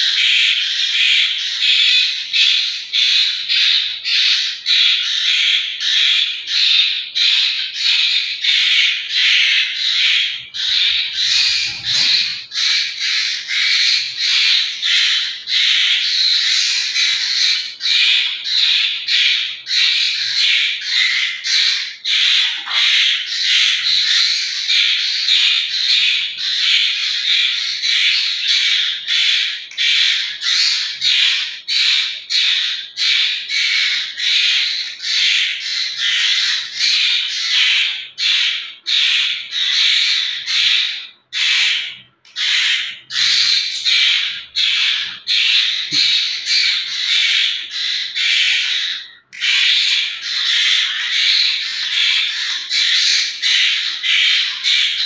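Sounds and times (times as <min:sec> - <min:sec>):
chicks squawking begging calls: 0:00.0 - 0:55.0.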